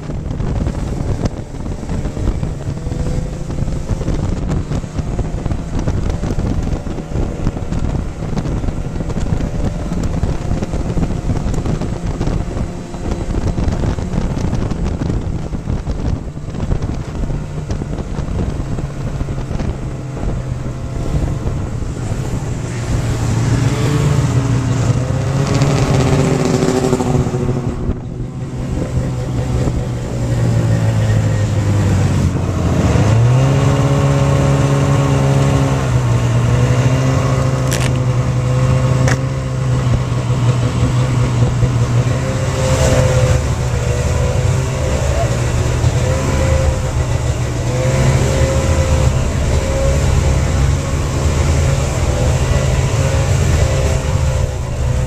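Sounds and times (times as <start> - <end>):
snowmobile engine running: 0.0 - 55.0
snowmobiles passing by: 0.0 - 55.0
wind buffeting microphone: 0.0 - 55.0.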